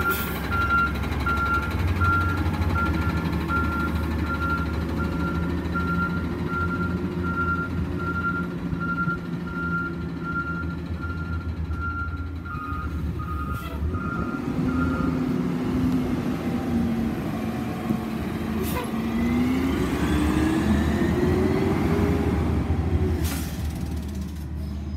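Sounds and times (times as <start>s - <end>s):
truck engine: 0.0s - 24.9s.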